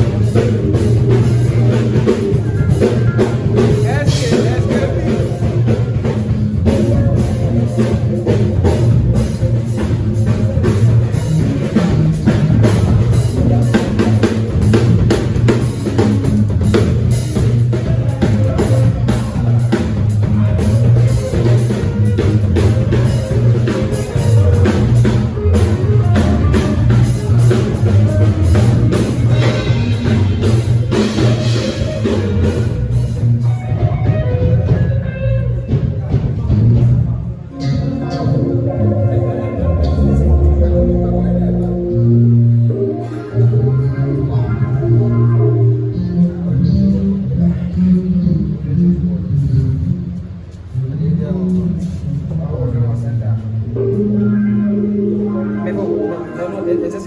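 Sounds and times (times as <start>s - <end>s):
drum kit beats: 0.0s - 57.0s
heavy bass line: 0.0s - 57.0s
live band music: 0.0s - 57.0s.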